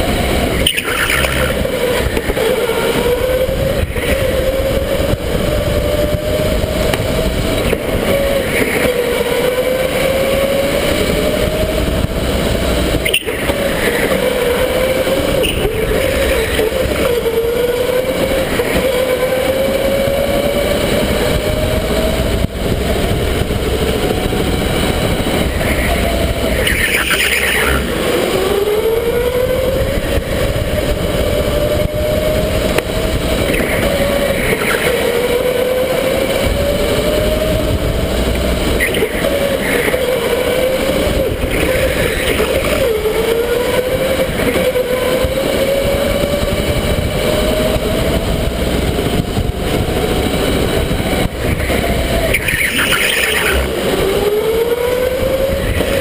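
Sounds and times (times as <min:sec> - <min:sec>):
electric go-kart motor whining: 0:00.0 - 0:56.0
wind rumble on microphone: 0:00.0 - 0:56.0.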